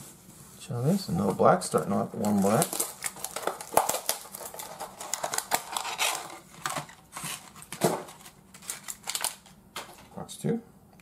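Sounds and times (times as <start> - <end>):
packaging crinkling: 1.2 - 10.0.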